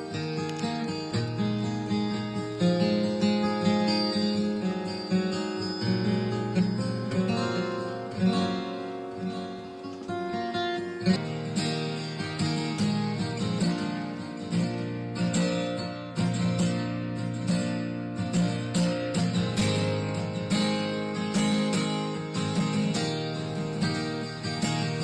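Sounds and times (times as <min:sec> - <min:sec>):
acoustic guitar picked and strummed: 0:00.0 - 0:25.0.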